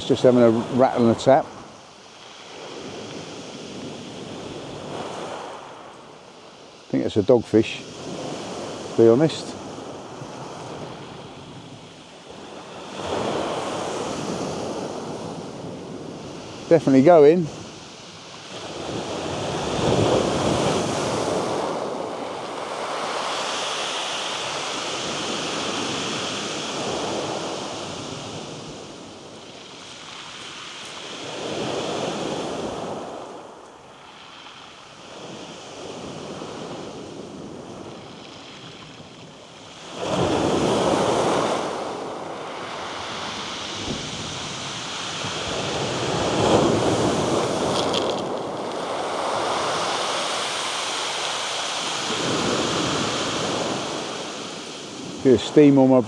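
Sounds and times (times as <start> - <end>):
waves washing up shingle beach: 0.0 - 56.0.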